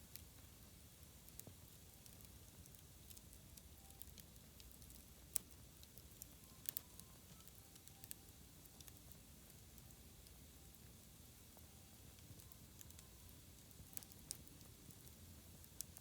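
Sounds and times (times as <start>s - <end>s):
bonfire crackling and popping: 0.1s - 16.0s.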